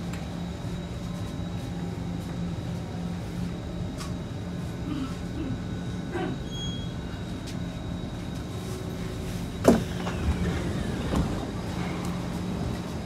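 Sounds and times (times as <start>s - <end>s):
electrical hum of a train: 0.0s - 13.0s.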